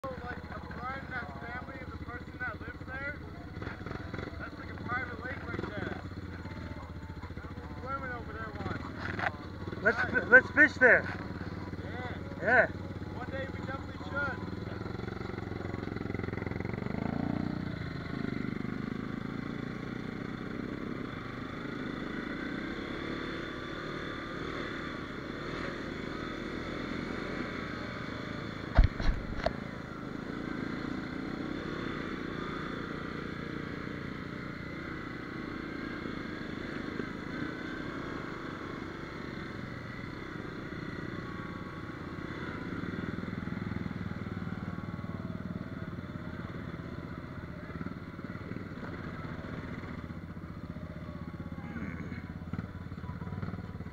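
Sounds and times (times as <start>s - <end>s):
quad engine running: 0.0s - 53.9s.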